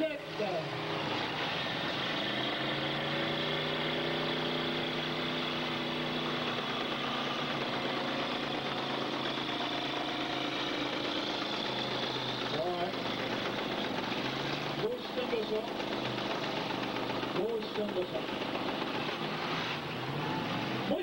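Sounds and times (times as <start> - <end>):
car engines droning: 0.0 - 21.0.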